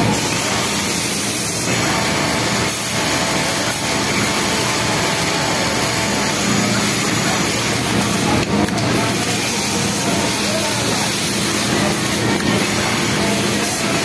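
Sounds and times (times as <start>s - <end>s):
sewing machines running: 0.0s - 14.0s.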